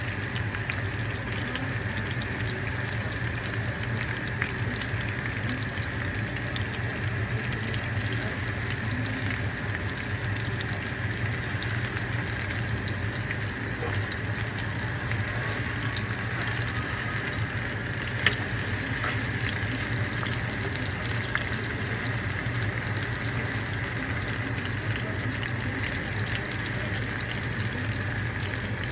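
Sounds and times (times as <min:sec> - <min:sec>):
food sizzling in a pan: 0:00.0 - 0:28.9.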